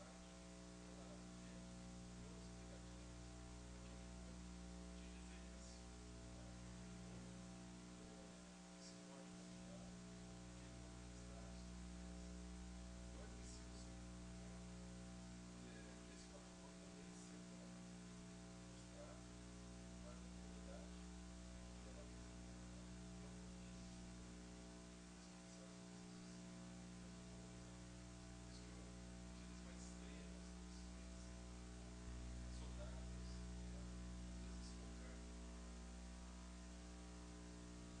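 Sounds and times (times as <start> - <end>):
faint electrical mains hum: 0.0 - 38.0.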